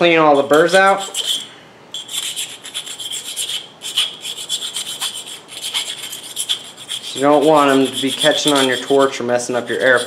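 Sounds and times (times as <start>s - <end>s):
metal tool scraping steel: 0.3s - 10.0s.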